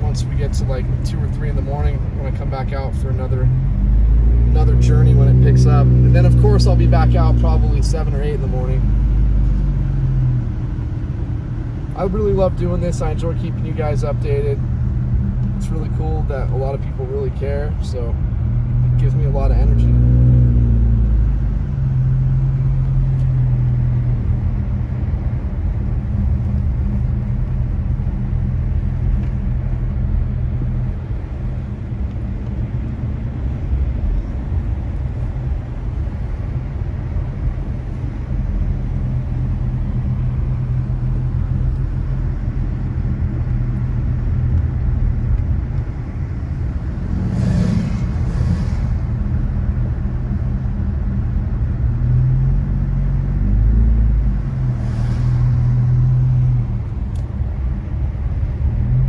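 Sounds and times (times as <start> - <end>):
car engine and road hum: 0.0 - 59.0.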